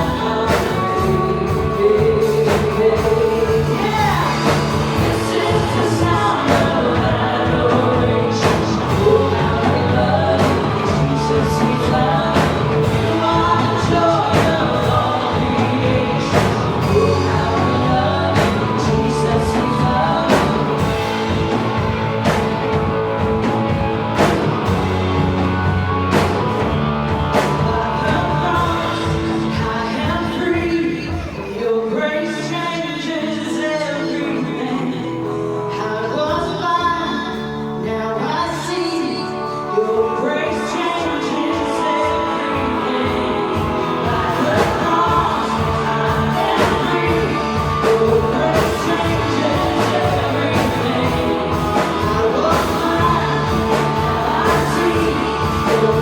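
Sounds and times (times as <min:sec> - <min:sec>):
worship band singing and playing: 0:00.0 - 0:56.0.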